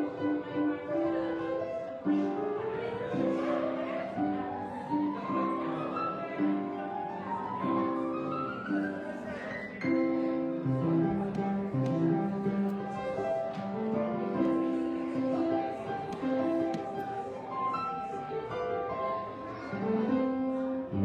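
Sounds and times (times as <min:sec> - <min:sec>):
upright piano playing: 0:00.0 - 0:21.0.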